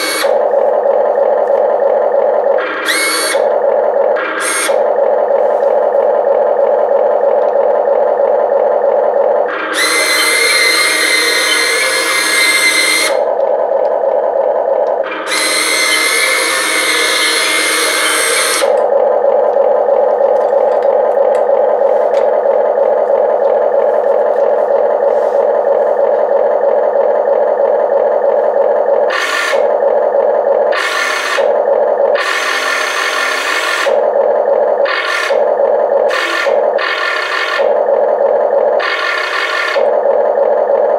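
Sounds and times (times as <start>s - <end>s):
simulated diesel engine running: 0.0s - 40.9s
whirring hissing bursts: 0.0s - 40.9s.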